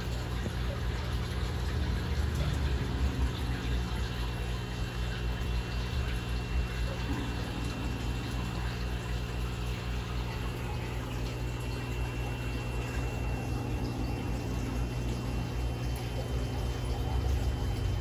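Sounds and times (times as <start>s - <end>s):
aquarium filter pump humming: 0.0s - 18.0s
water splashing in tank: 0.0s - 18.0s.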